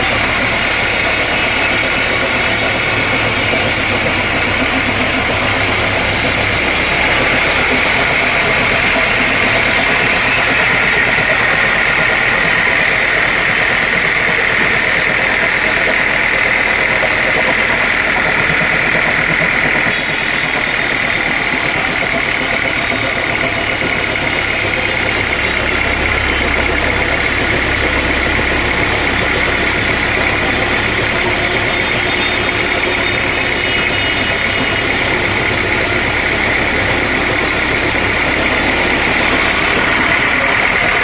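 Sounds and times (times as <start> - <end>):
constant high whine: 0.0 - 41.0
sawmill machinery drone: 0.0 - 41.0.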